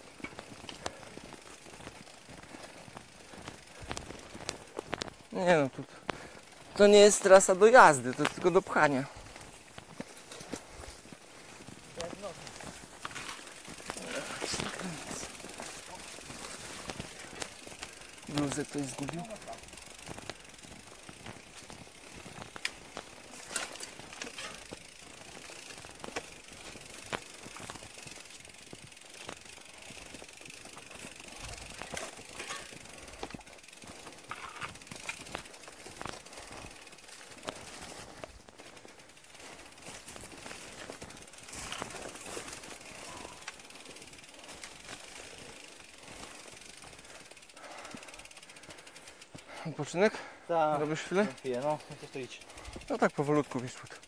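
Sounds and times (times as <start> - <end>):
bicycle freewheel ticking: 0.0 - 54.0.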